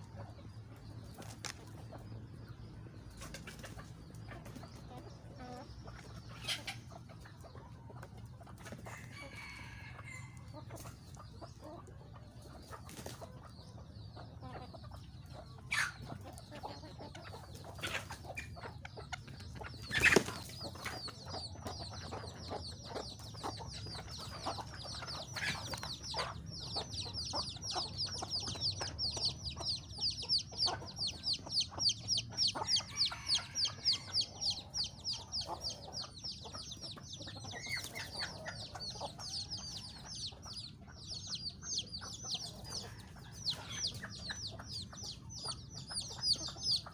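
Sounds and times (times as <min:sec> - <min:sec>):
chickens calling: 0:00.0 - 0:46.9.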